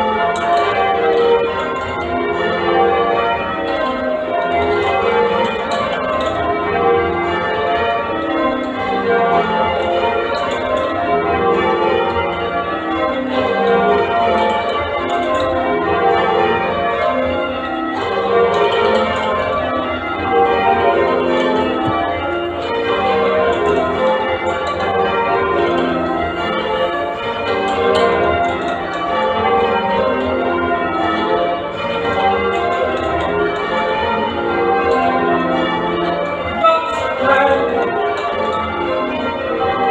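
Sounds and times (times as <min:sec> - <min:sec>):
church bells ringing changes: 0:00.0 - 0:39.9.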